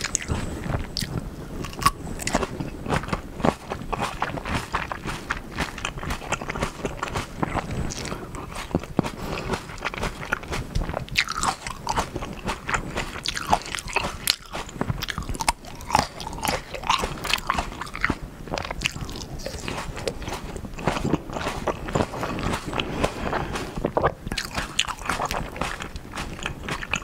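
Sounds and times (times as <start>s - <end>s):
grapes being chewed: 0.0s - 27.0s.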